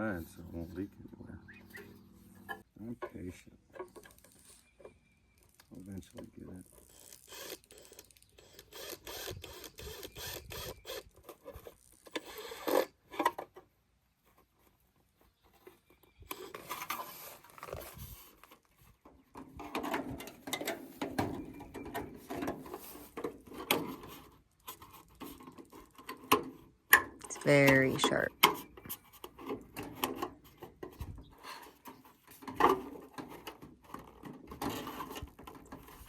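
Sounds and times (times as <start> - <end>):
scraping and rasping of rain gutter: 1.7 - 13.7, 14.3 - 27.4, 28.1 - 36.0.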